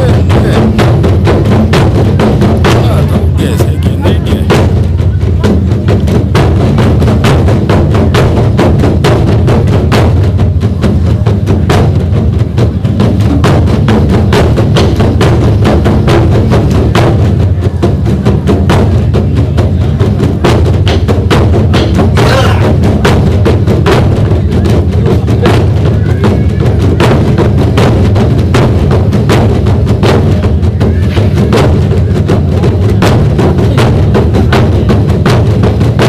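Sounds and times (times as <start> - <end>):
deep drum beats: 0.0 - 36.0
drum ensemble playing fast rhythm: 0.0 - 36.0.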